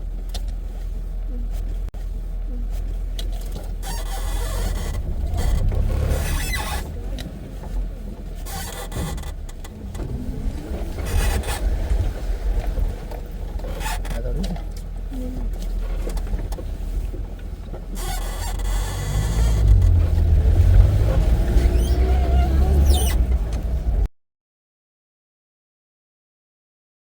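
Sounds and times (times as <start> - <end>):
vehicle rumbling on dirt track: 0.0 - 24.1.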